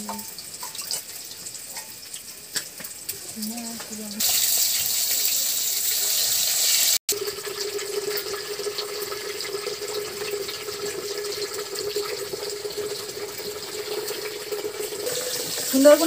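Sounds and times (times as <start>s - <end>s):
fish frying in hot oil: 0.0s - 16.0s.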